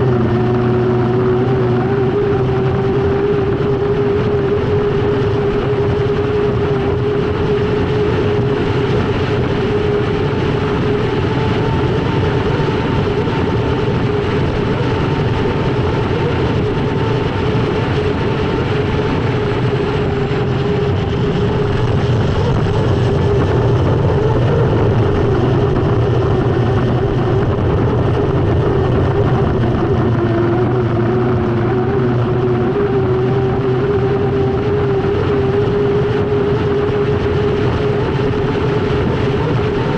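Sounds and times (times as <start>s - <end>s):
dense rush: 0.0s - 39.8s
turbine engine whine: 0.0s - 39.9s.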